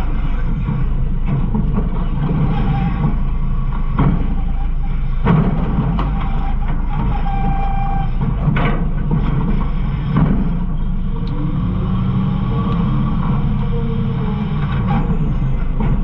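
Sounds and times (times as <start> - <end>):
garbage truck low rumble: 0.0 - 16.0
held whine: 0.0 - 16.0.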